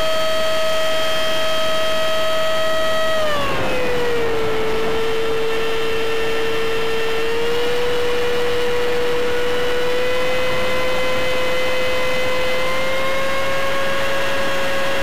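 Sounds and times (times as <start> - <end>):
electric ducted fan whining: 0.0 - 15.0.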